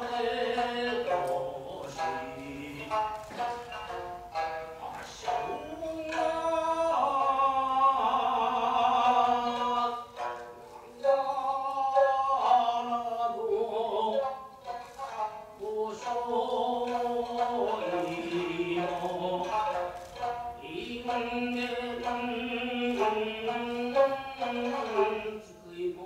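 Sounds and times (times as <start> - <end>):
plucked shamisen notes: 0.0 - 26.0.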